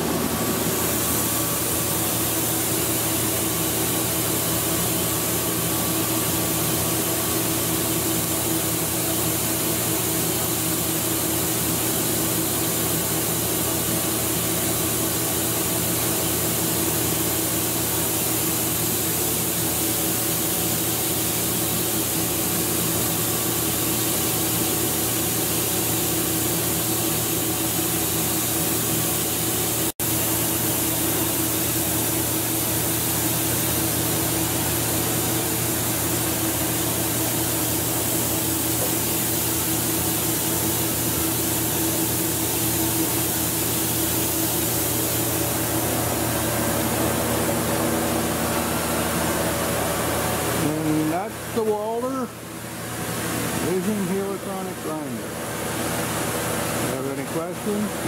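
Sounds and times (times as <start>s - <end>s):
tool grinder hiss and hum: 0.0s - 58.0s.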